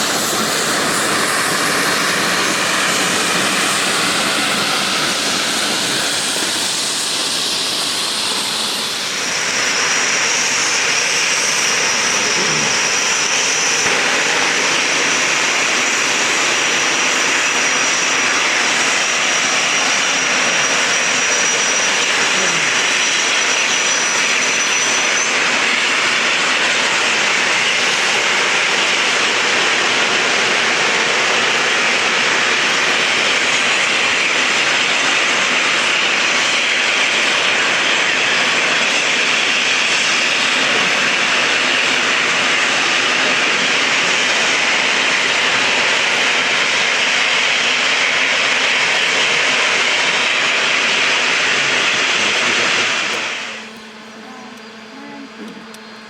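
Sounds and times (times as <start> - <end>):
steam locomotive rush of steam: 0.0 - 56.0
thin high whine: 0.0 - 56.0.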